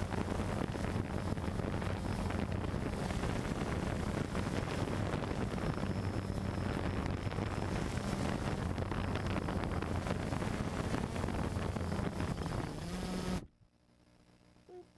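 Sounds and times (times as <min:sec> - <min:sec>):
drone motors buzzing: 0:00.0 - 0:13.5
wind noise on microphone: 0:00.0 - 0:13.5.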